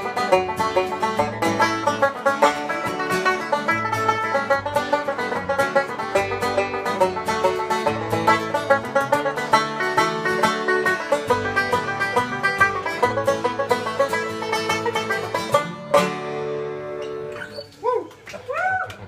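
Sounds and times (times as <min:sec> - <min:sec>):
banjo playing a brisk tune: 0:00.0 - 0:17.4.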